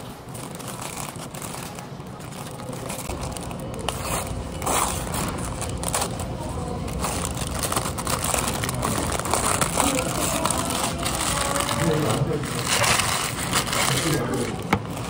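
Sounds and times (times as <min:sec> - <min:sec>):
paper wrapper crinkling and tearing: 0:00.0 - 0:15.0.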